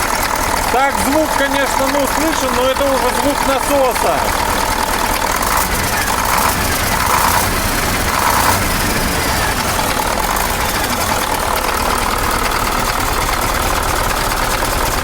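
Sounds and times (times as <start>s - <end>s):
diesel engine idling: 0.0s - 15.0s
injection pump noise: 0.0s - 15.0s.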